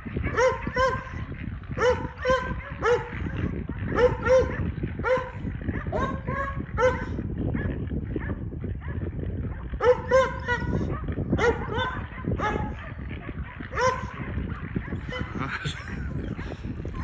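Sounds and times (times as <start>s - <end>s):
dogs barking: 0.0s - 17.0s.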